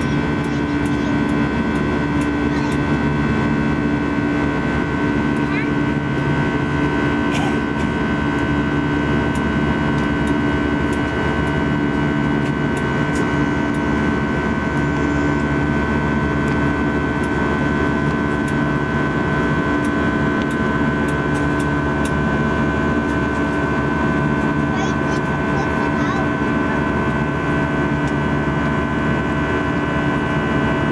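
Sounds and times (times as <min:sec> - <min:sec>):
airplane cabin engine rush: 0:00.0 - 0:30.9.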